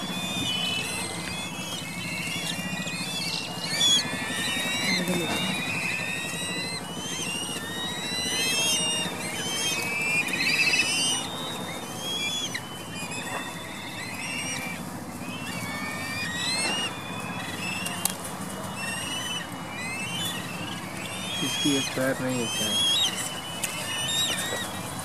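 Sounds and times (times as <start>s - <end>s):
kites calling shrill whistles: 0.0s - 25.0s.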